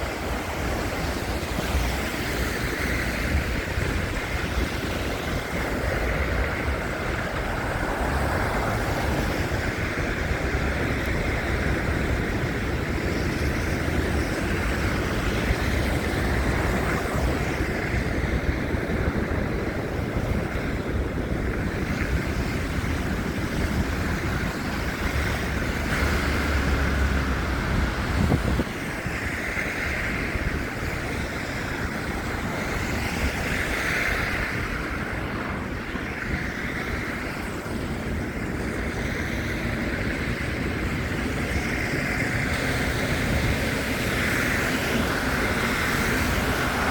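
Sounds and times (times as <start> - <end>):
city traffic: 0.0 - 46.9
wind buffeting microphone: 0.0 - 46.9.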